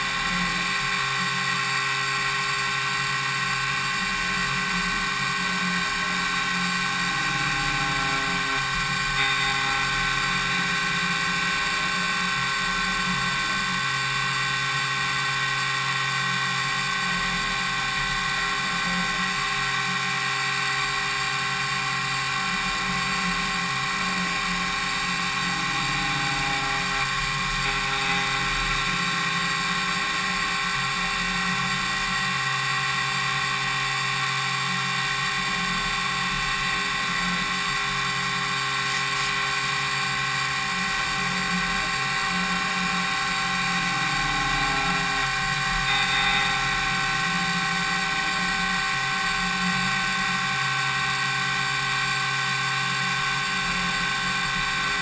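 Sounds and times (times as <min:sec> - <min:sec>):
milling spindle whine: 0:00.0 - 0:55.0.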